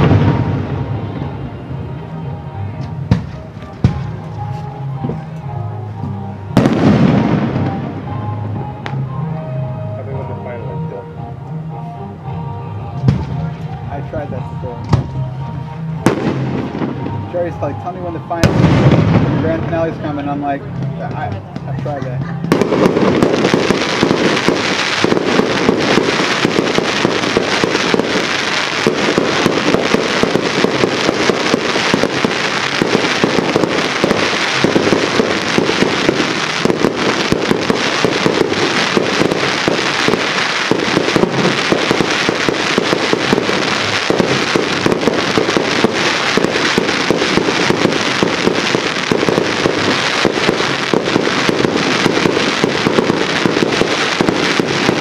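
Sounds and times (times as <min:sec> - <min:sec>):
fireworks crackling and popping: 0:00.0 - 0:09.5, 0:12.9 - 0:55.0.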